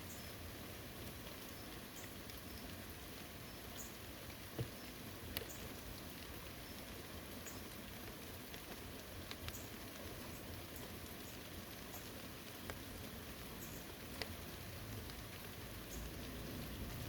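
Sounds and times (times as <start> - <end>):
rain falling on foliage: 0.0 - 17.0
raindrops tapping: 0.9 - 17.0.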